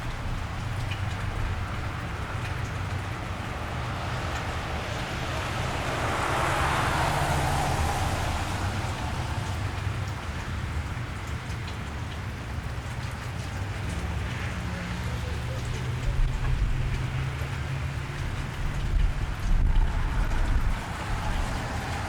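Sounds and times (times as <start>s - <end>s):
car tyres hissing on wet road: 0.0s - 12.3s, 12.9s - 22.0s
rain falling on street: 0.0s - 22.0s.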